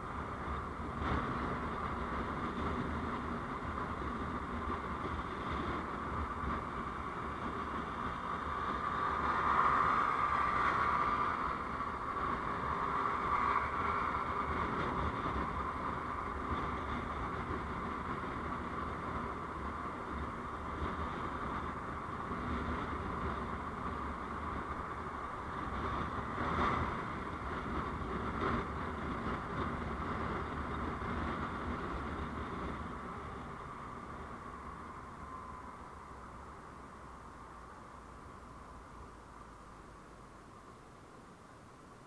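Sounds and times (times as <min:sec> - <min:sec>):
vehicle road and engine noise: 0:00.0 - 0:42.0.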